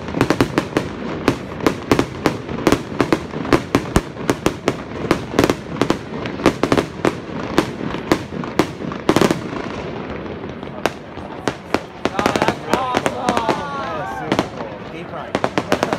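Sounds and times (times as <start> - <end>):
fireworks rumble: 0.0 - 15.9.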